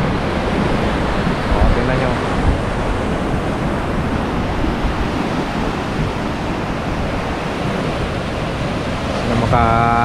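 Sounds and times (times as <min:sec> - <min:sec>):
surf breaking on rocks: 0:00.0 - 0:10.0.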